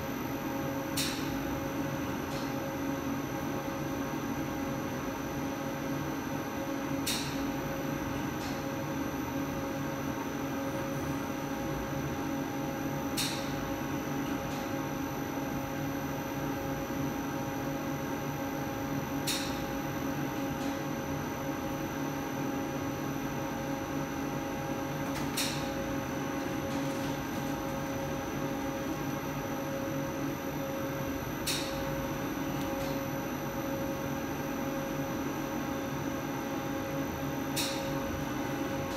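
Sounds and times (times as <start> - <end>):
extruder machine hum: 0.0 - 38.9.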